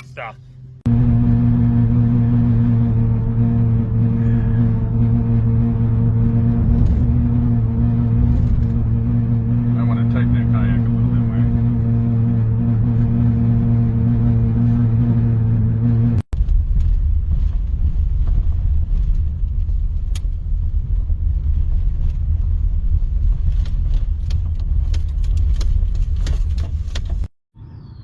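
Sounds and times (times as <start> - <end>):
low droning hum: 0.0 - 27.0
heavy low rumble: 0.0 - 28.0.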